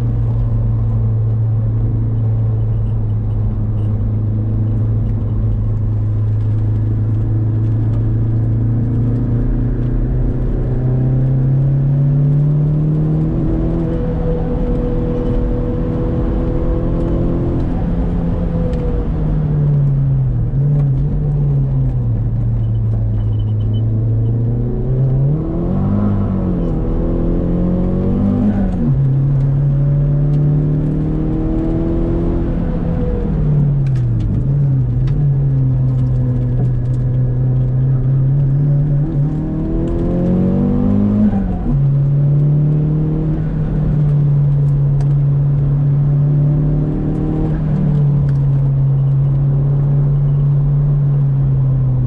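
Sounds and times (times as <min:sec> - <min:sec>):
car engine at high revs: 0:00.0 - 0:52.0.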